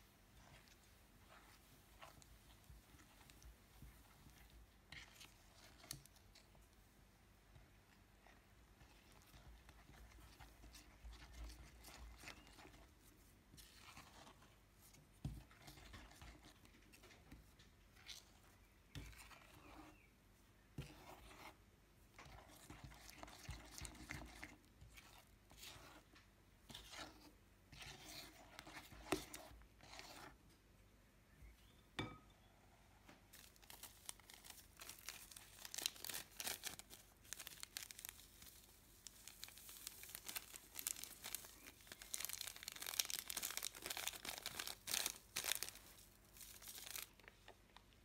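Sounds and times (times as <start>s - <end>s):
wet slime squishing: 0.1s - 30.6s, 32.9s - 48.0s.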